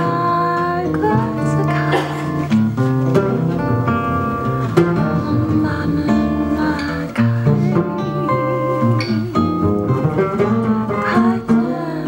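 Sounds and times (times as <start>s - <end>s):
acoustic guitar melody: 0.0s - 12.0s
plucked upright bass: 0.0s - 12.0s.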